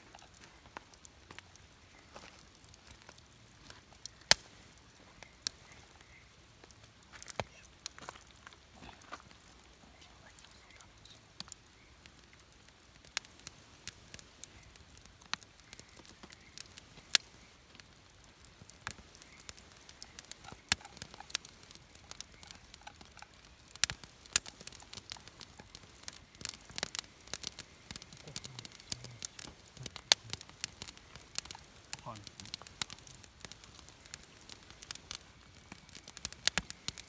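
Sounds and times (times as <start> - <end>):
campfire wood crackling: 0.0 - 37.0.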